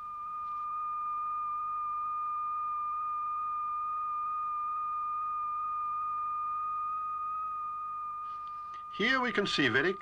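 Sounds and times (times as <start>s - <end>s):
steady high-pitched tone: 0.0s - 10.0s.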